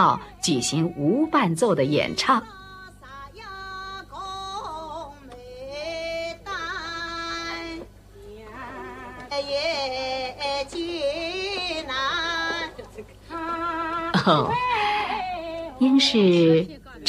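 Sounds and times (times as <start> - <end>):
woman singing unaccompanied: 0.0 - 17.0.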